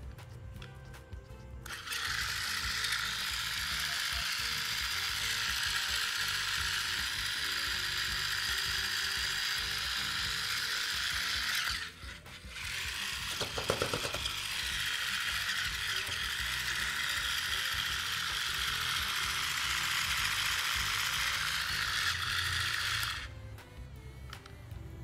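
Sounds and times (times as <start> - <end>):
toy car wheels ratcheting: 1.6 - 23.3.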